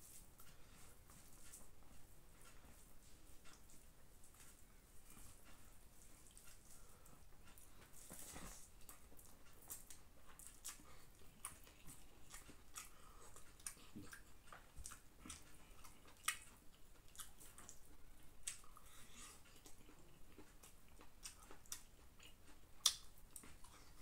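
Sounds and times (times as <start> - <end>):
man chewing: 0.0 - 24.0.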